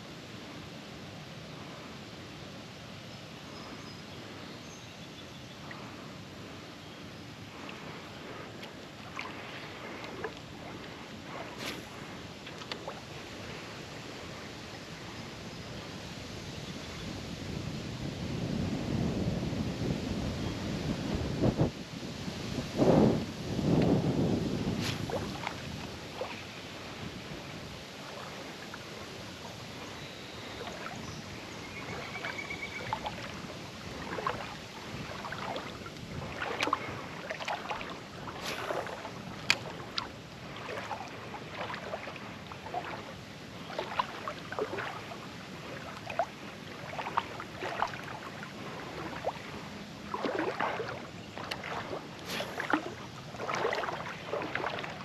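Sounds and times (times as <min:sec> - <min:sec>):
water splashing and sloshing: 0:05.6 - 0:17.0, 0:21.1 - 0:55.0.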